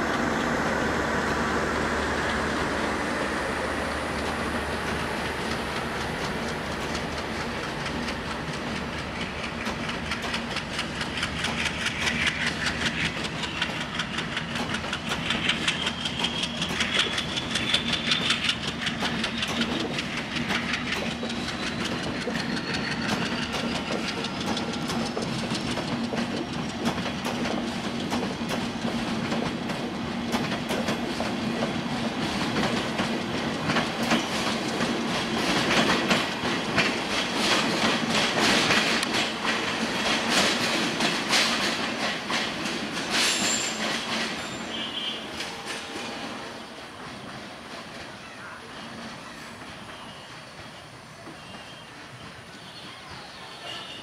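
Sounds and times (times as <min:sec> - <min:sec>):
train wheels clattering over rail joints: 0:00.0 - 0:52.8.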